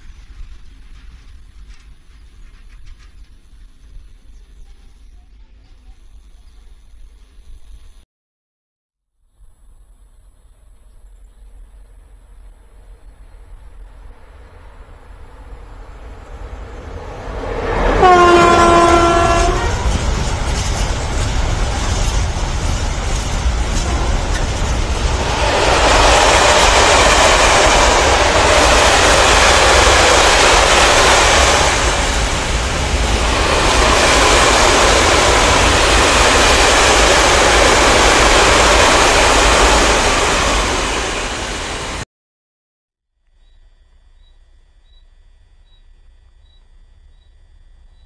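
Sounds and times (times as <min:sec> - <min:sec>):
freight train wheel and rail noise: 0:00.0 - 0:08.0, 0:11.0 - 0:42.0.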